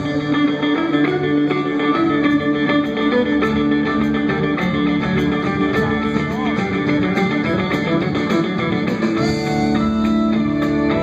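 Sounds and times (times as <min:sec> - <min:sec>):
bowed fiddle: 0:00.0 - 0:11.0
drums: 0:00.0 - 0:11.0
electric guitars: 0:00.0 - 0:11.0.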